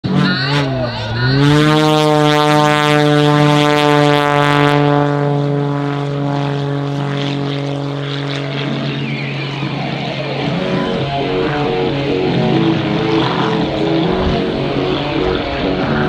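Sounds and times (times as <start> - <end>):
stunt plane engine buzzing: 0.0 - 16.0.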